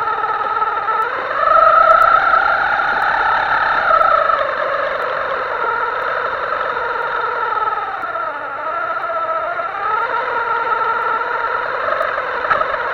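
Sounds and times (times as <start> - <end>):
rc boat electric motor whining: 0.0 - 12.9.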